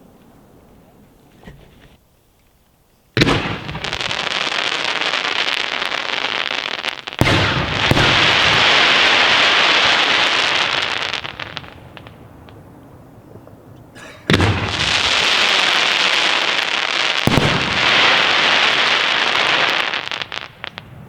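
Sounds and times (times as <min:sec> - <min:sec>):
firework bangs: 0:03.2 - 0:21.0
firework crackling: 0:03.2 - 0:21.0.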